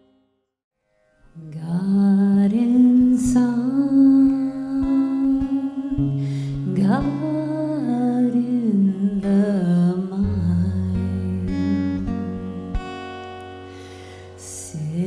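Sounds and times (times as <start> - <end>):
person singing slow melody: 1.3 - 13.0, 14.2 - 15.0
plucked string accompaniment: 2.5 - 15.0.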